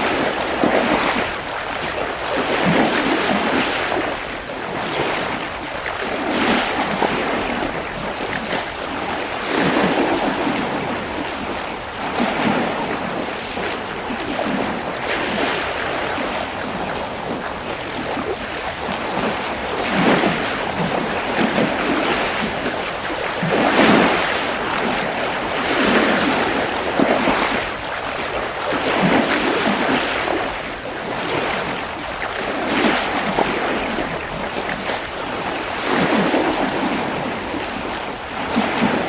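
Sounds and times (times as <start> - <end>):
sea waves washing in: 0.0 - 39.0.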